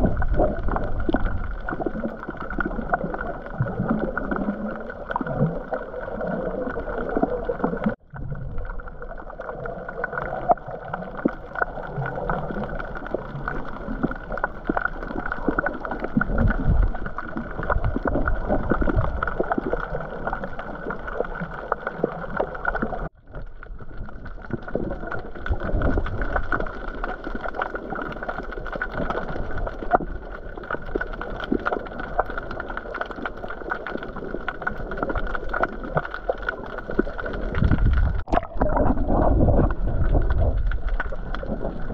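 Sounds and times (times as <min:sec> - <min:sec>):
muffled water rushing and gurgling: 0:00.0 - 0:41.9.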